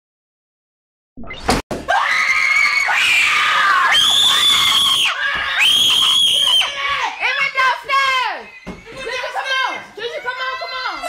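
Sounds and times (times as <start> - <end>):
people screaming in fright: 1.9 - 11.0.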